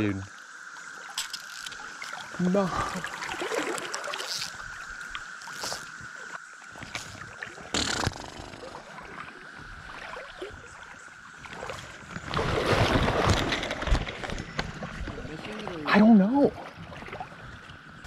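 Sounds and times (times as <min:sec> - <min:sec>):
cicada chorus drone: 0:00.0 - 0:18.0.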